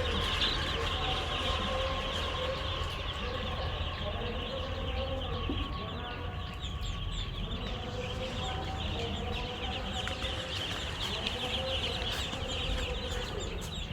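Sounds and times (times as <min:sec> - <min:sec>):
chicks peeping: 0:00.0 - 0:13.9.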